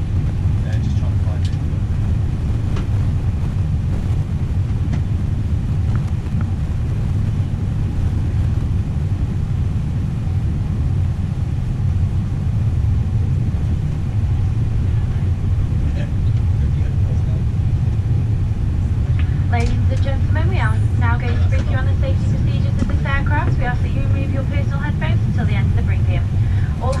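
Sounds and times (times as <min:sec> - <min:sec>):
airliner cabin rumble while taxiing: 0:00.0 - 0:27.0.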